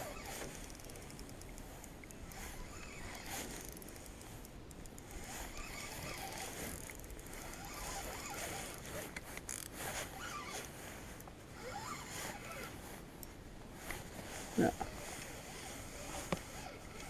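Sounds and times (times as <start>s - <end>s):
spinning reel rasping whirr: 0.0s - 13.2s, 13.8s - 17.0s
reel clicks: 0.0s - 17.0s.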